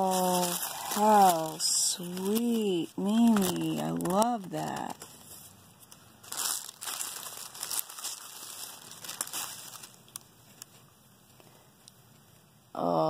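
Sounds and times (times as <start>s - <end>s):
tissue paper crinkling: 0.0s - 10.9s.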